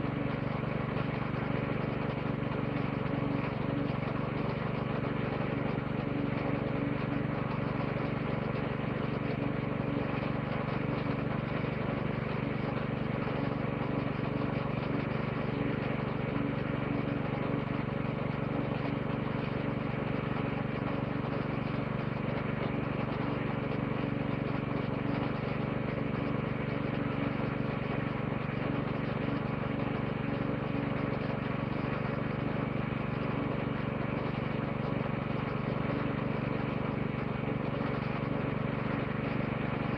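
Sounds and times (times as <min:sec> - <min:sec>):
woodchipper engine idling: 0:00.0 - 0:39.9.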